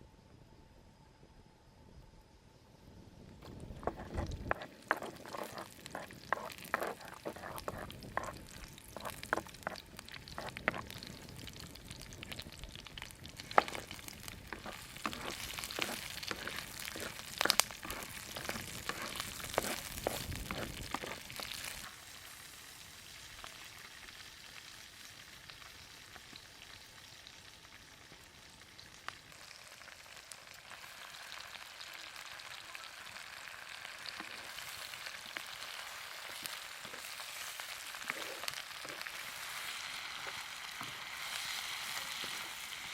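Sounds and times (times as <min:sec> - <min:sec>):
food frying sizzle: 0:03.4 - 0:42.9.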